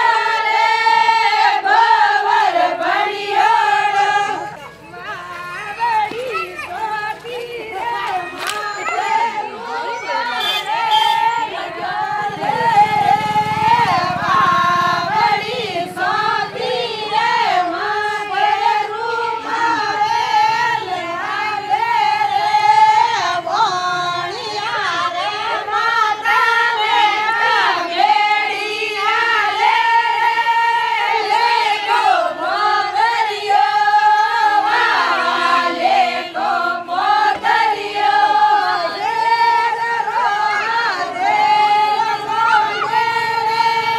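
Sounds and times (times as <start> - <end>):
women singing folk song: 0.0 - 43.9.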